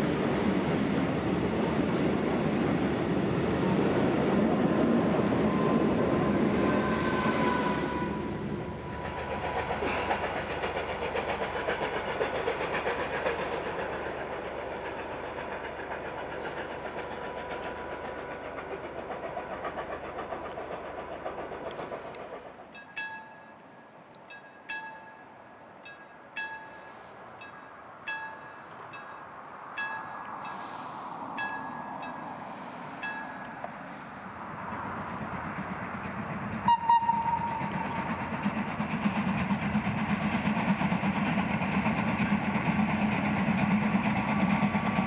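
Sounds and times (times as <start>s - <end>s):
train wheels clattering over rails: 0.0s - 23.5s, 29.8s - 45.0s.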